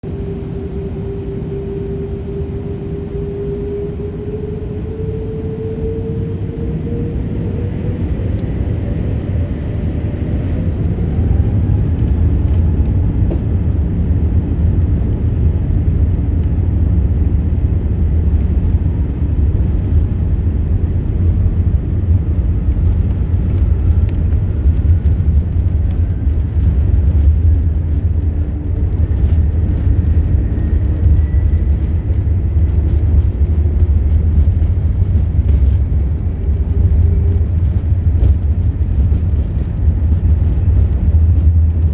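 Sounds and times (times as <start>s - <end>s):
aircraft cabin rumble: 0.0s - 41.9s
engine whine rising in pitch: 0.0s - 41.9s.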